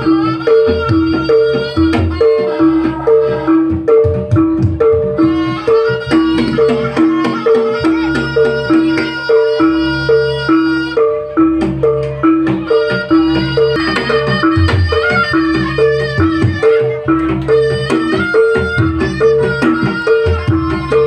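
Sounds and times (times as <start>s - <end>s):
drumming: 0.0s - 21.0s
sustained melody line: 0.0s - 21.0s.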